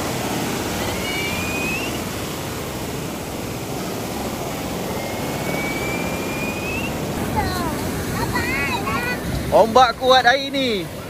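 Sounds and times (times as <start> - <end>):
jet ski engine whine: 0.0 - 11.0
wind and water rushing: 0.0 - 11.0.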